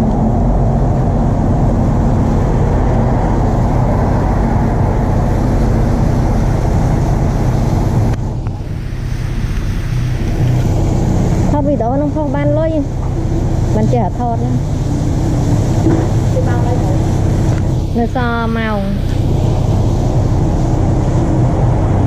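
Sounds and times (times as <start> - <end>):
motor humming: 0.0 - 22.0
street noise: 0.0 - 22.0.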